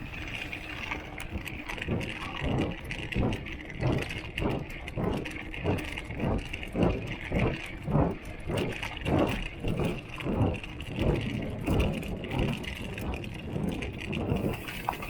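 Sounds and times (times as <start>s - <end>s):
wind noise: 0.0s - 15.0s.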